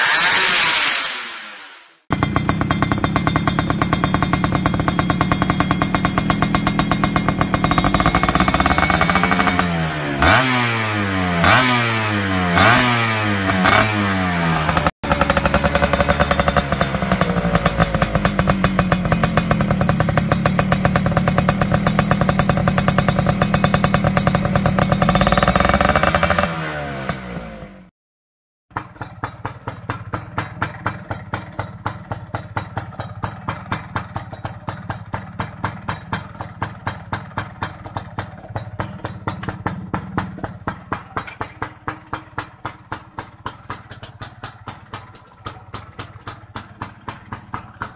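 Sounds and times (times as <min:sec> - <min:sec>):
two-stroke engine idling and revving: 0:02.0 - 0:27.9, 0:28.7 - 0:47.9.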